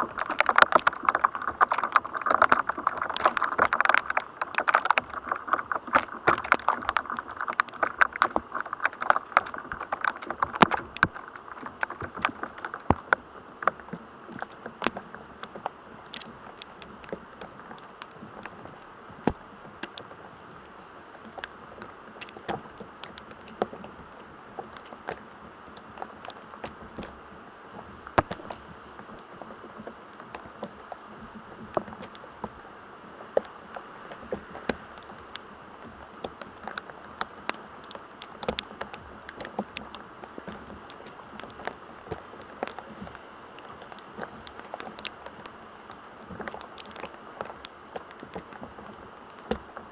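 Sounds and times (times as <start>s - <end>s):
electrostatic crackles and pops: 0.0s - 49.9s.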